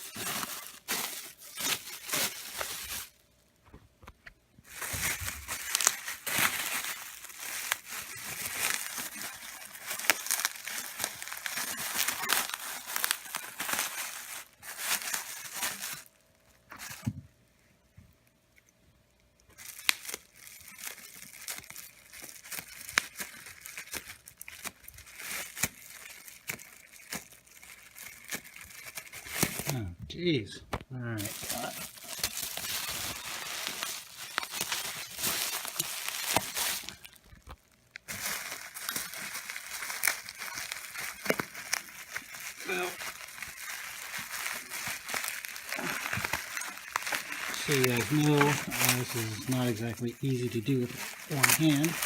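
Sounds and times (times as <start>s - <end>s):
packing material crinkling and tearing: 0.0s - 3.2s, 4.6s - 17.1s, 19.4s - 29.9s, 31.0s - 52.0s.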